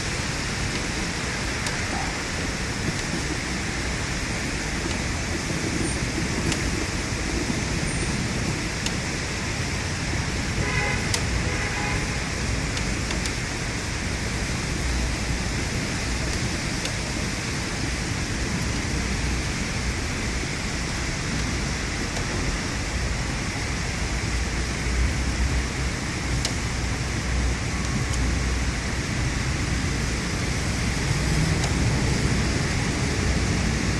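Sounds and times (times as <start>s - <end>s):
heavy rain pouring: 0.0s - 33.9s
raindrops ticking: 0.1s - 11.4s, 12.0s - 33.7s.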